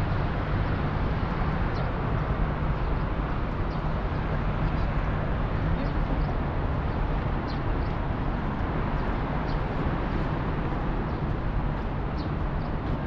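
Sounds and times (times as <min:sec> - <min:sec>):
park background noise: 0:00.0 - 0:13.0.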